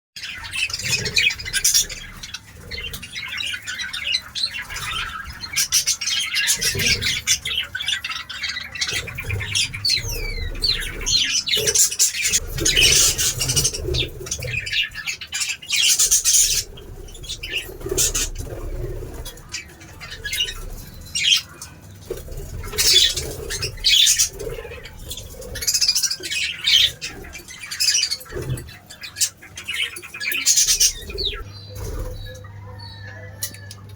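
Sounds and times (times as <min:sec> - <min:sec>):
birds chirping and squawking: 0:00.2 - 0:33.9.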